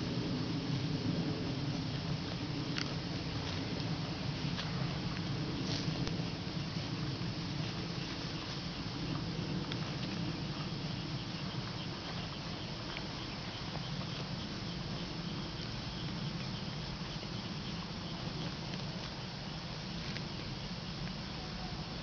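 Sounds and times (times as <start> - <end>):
insects chirping: 0.0 - 22.0
cattle chewing grass: 0.2 - 21.6.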